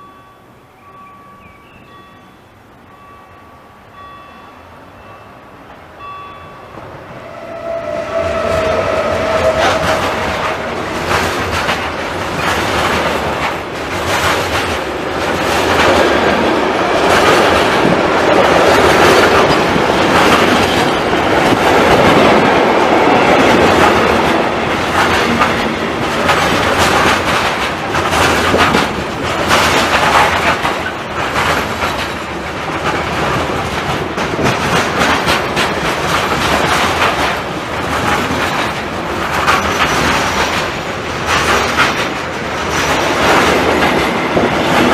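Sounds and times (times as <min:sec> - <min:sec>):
train rolling noise: 0:00.0 - 0:44.9
train wheels clicking on rail joints: 0:06.8 - 0:44.9.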